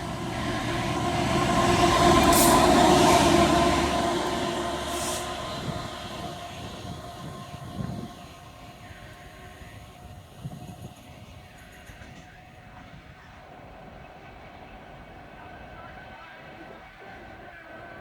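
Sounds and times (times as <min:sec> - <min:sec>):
diesel locomotive rumbling: 0:00.0 - 0:18.0.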